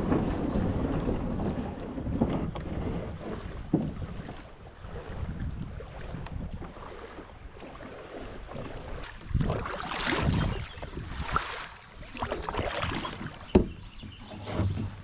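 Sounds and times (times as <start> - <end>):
paddle knocking kayak: 0.0 - 15.0
paddle splashing water: 0.0 - 15.0.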